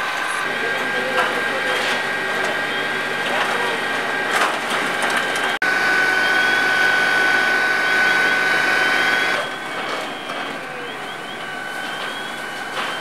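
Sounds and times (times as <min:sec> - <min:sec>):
pump high whine: 0:00.1 - 0:13.0.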